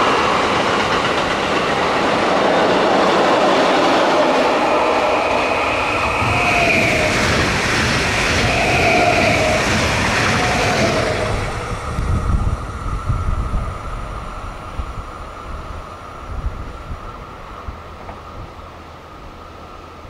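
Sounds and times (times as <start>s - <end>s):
train low rumble: 0.0s - 20.0s
train wheels rushing on rails: 0.0s - 20.0s.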